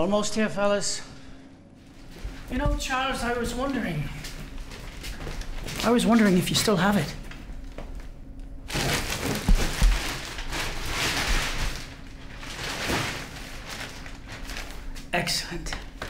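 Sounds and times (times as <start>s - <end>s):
plastic bag rustling: 1.8s - 16.0s.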